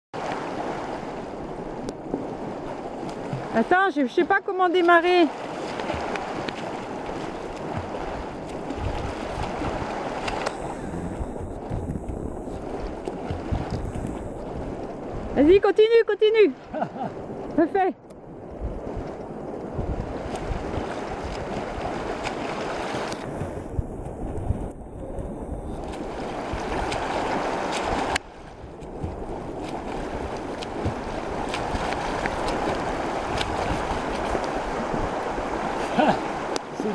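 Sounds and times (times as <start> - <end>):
swimmer splashing: 0.2 - 17.4, 18.6 - 36.9
river water rushing: 0.2 - 18.5, 19.2 - 36.9.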